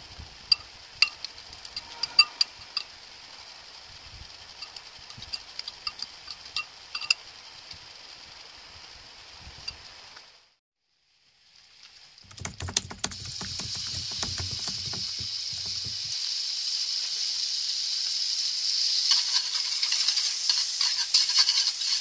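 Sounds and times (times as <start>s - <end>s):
margarine crackling in a hot wok: 0.0s - 10.4s, 11.0s - 12.3s, 13.2s - 22.0s
sizzling in a wok: 0.0s - 12.3s, 15.1s - 22.0s
faint steady hiss: 0.0s - 22.0s.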